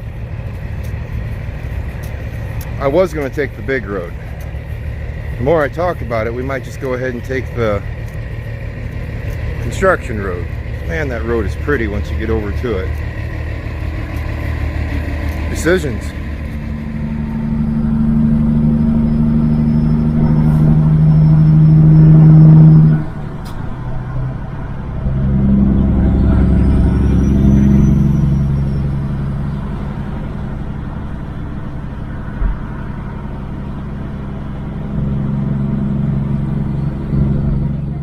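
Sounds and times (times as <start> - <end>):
truck diesel engine under load: 0.0 - 38.0.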